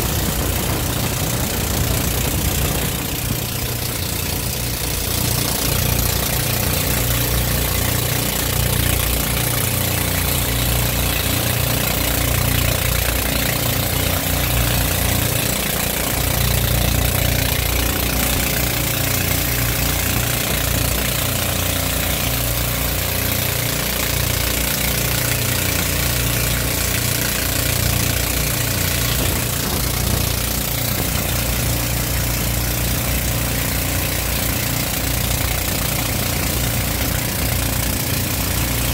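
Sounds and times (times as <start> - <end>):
boat engine running: 0.0 - 38.9
water splashing and hissing: 0.0 - 38.9.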